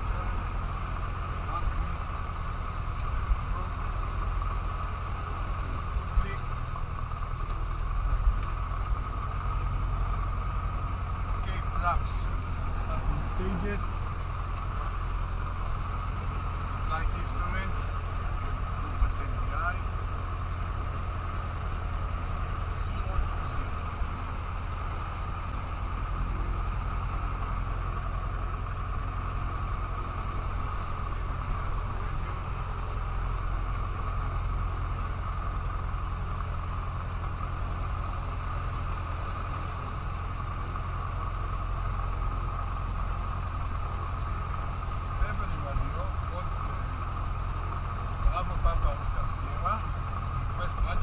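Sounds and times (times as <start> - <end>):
aircraft engine and propeller drone: 0.0 - 51.0.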